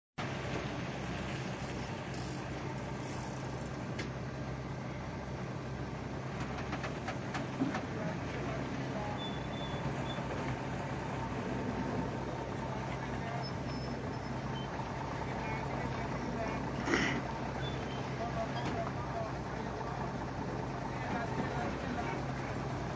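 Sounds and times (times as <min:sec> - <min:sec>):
engine humming: 0:00.2 - 0:22.9.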